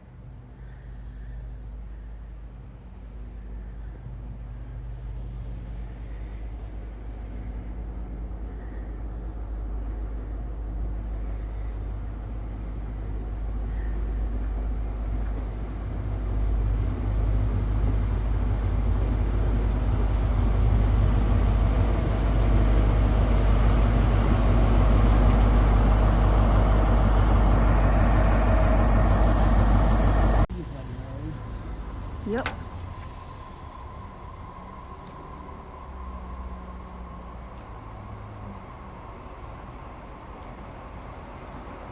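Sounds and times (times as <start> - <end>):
train rumble: 0.0 - 41.9.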